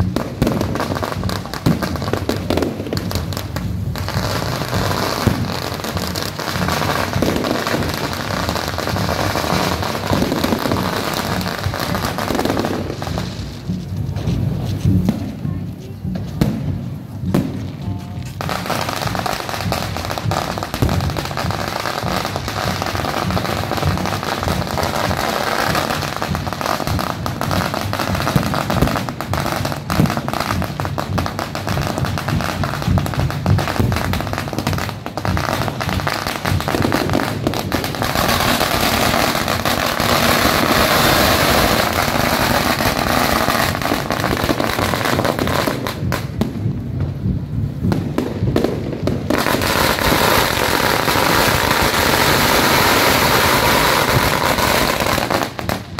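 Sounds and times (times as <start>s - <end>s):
fireworks crackling bangs: 0.0s - 55.9s.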